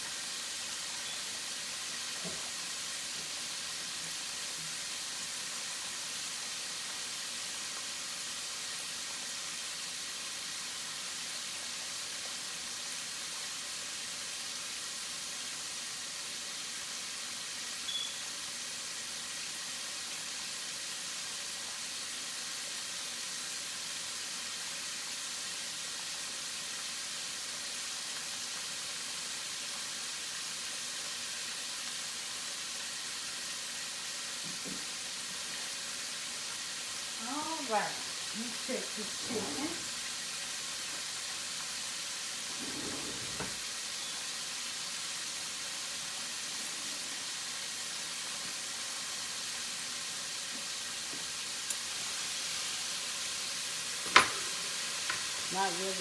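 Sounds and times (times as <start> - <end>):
wings sizzling in a skillet: 0.0 - 42.5, 43.6 - 56.0.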